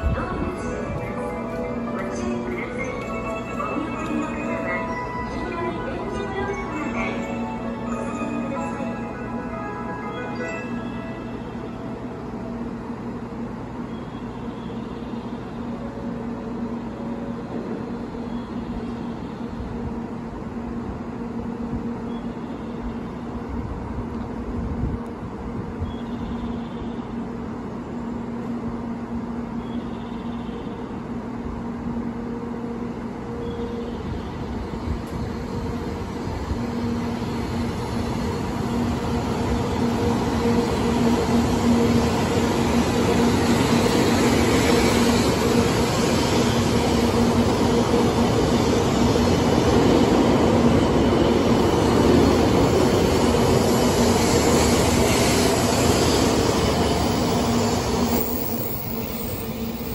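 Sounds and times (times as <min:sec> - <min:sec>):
train motor and wheel noise: 0:00.0 - 0:59.9.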